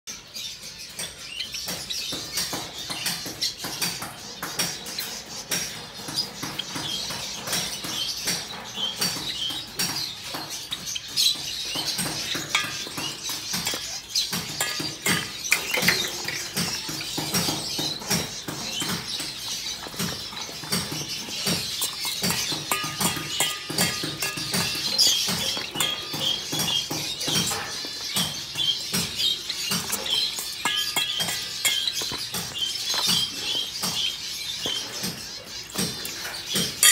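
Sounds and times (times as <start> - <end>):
cage birds chirping: 0.0 - 36.9
soft food stirred in a bowl: 1.1 - 36.9.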